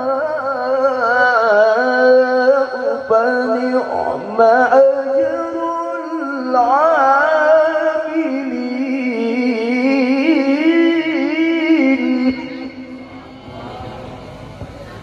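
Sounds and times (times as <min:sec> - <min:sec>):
man reciting melodically over pa: 0:00.0 - 0:13.0.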